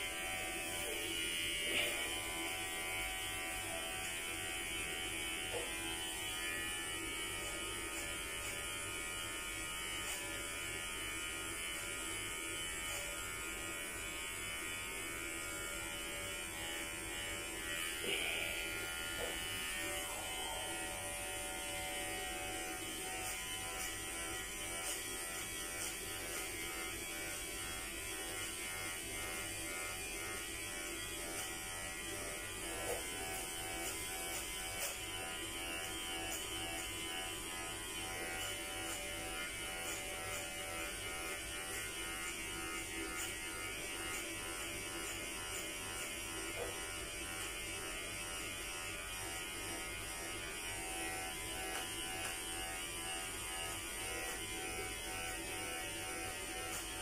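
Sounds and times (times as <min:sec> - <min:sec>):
electric hair clippers buzzing: 0:00.0 - 0:57.0.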